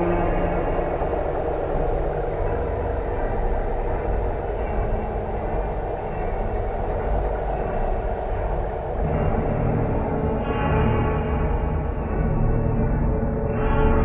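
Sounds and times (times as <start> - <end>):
dense low rumble: 0.0 - 14.0.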